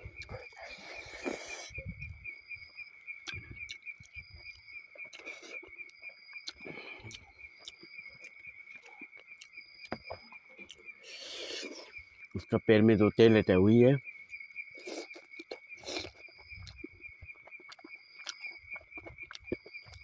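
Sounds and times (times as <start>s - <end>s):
chewing: 0.0s - 12.5s, 14.3s - 20.0s
higher insect call: 0.0s - 20.0s
insects trilling: 0.0s - 20.0s.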